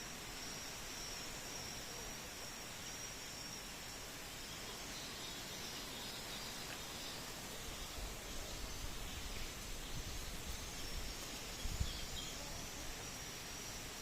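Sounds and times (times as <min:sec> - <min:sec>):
faint high-pitched chirping: 0:00.0 - 0:14.0.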